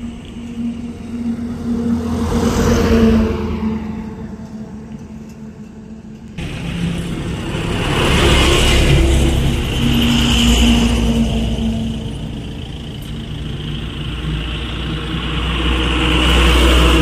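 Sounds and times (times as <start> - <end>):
diesel truck engine: 0.0 - 17.0
truck passing with tyre noise: 0.0 - 17.0.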